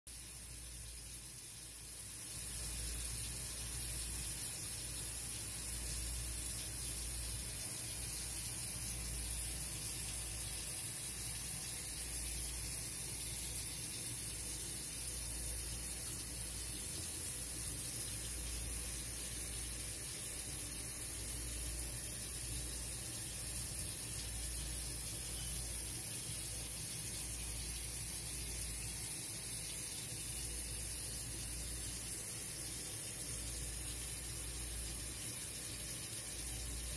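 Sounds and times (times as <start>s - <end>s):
steady hiss: 0.1s - 36.9s.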